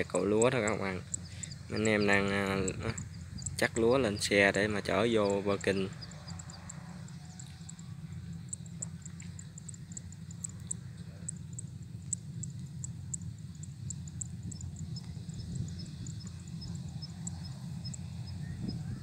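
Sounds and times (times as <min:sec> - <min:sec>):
distant combine harvester engine rumble: 0:00.0 - 0:19.0.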